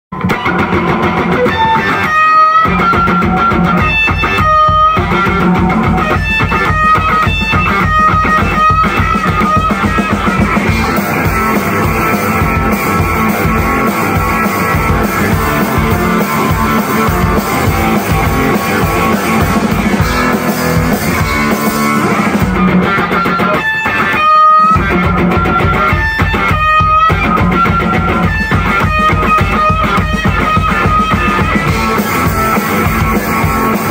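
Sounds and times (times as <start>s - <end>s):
drum kit beat: 0.1s - 33.9s
electric guitar strumming: 0.1s - 33.9s
rock band playing: 0.1s - 33.9s.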